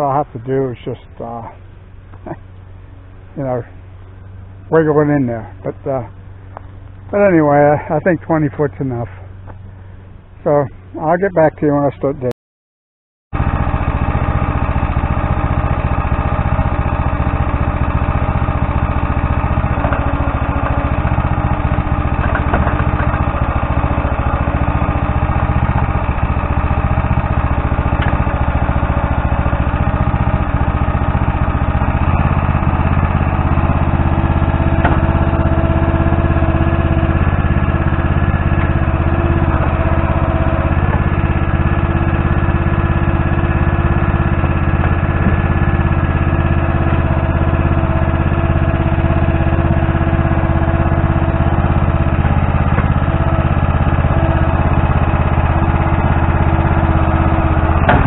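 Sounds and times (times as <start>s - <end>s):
tractor engine running: 0.0s - 12.1s, 13.3s - 58.0s.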